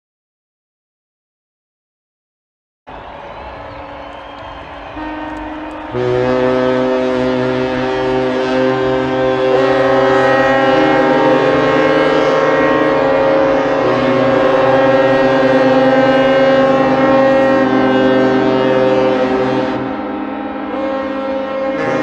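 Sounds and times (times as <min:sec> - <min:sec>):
ships' horns blasting: 0:03.0 - 0:22.0.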